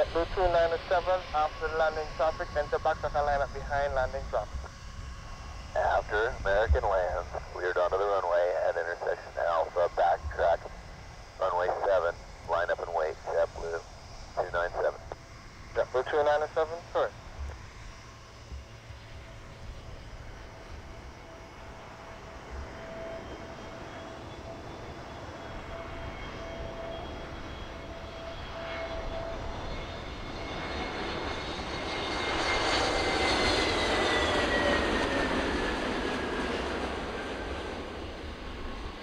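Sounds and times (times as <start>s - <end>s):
jet airliner passing by: 0.0s - 39.0s.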